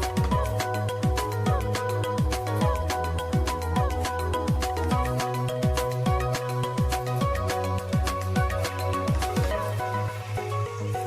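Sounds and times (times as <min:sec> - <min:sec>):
deep kick drum: 0:00.0 - 0:09.6
electronic music: 0:00.0 - 0:11.0.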